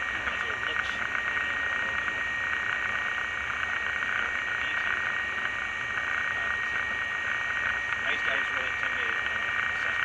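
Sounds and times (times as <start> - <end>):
aircraft engine idling: 0.0 - 10.0.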